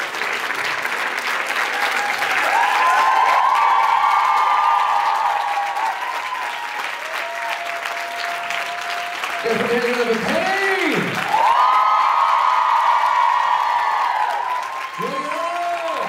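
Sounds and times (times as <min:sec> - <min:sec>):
audience clapping: 0:00.0 - 0:16.0.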